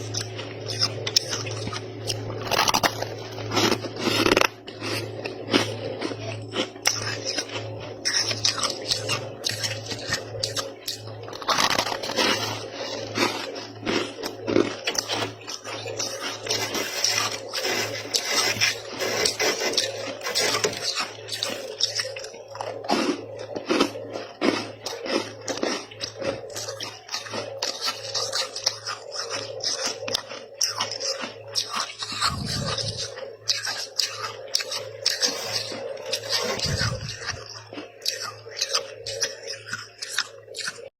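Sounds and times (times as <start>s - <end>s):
frost crunching when chewed: 0.0s - 40.9s
low steady hum: 0.0s - 40.9s.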